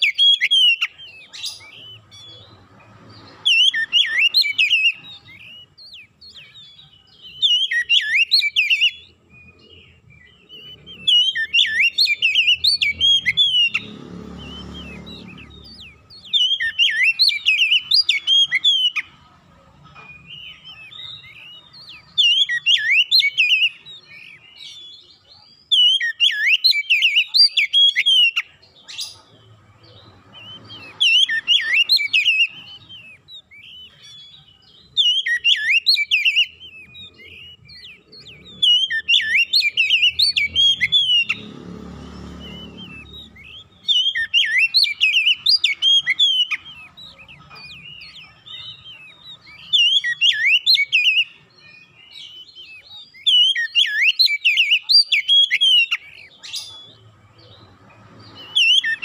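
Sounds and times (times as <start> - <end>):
bird singing whistled phrases: 0.0 - 19.2, 20.0 - 59.0.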